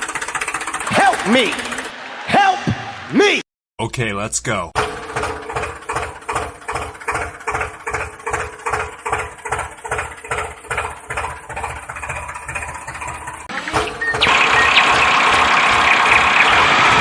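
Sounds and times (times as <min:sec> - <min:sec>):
tractor engine chugging at idle: 0:00.0 - 0:02.9, 0:04.8 - 0:17.0.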